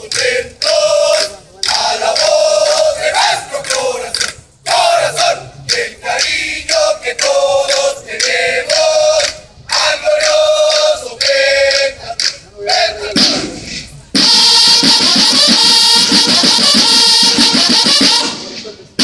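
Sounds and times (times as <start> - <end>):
bugles playing in unison: 0.0 - 19.0
snare drums: 0.0 - 19.0.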